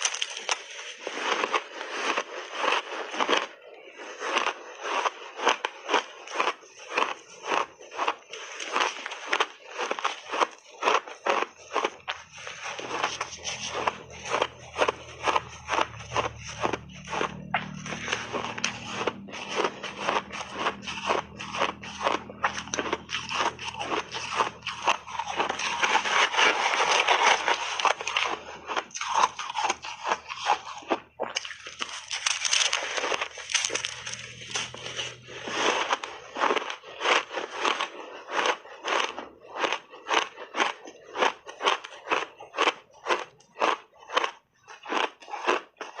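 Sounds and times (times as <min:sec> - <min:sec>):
chewing crunchy ice: 0:00.0 - 0:46.0.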